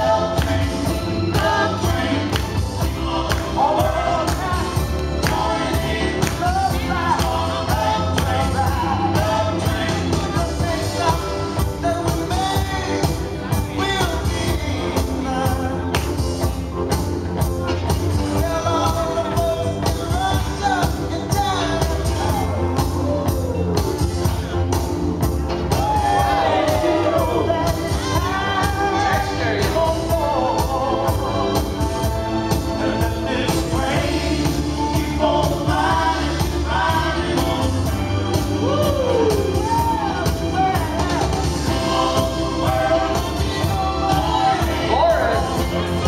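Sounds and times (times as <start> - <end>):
loud dance music with singing: 0.0 - 46.0.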